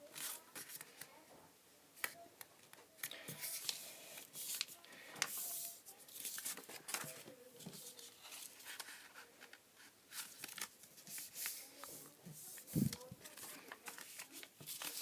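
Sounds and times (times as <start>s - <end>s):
paper rustling and folding: 0.0s - 1.1s, 3.0s - 15.0s.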